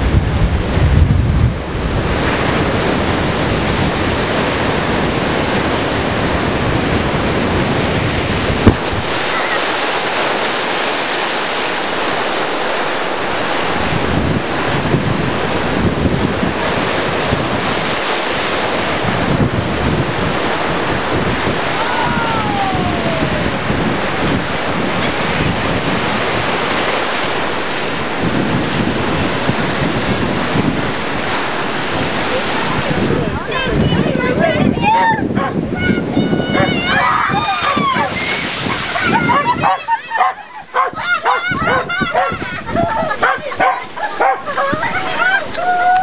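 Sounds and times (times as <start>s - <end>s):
gusty wind buffeting microphone: 0.0s - 46.0s
heavy surf crashing on rocks: 0.0s - 46.0s.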